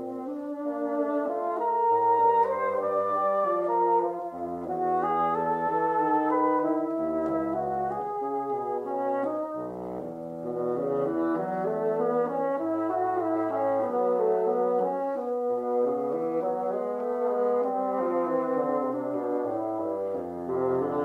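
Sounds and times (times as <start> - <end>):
classical music on bassoons: 0.0 - 21.0.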